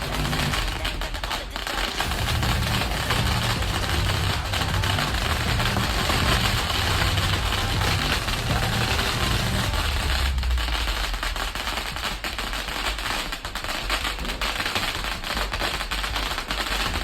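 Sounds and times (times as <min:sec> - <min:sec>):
firecracker string rattling: 0:00.0 - 0:17.0.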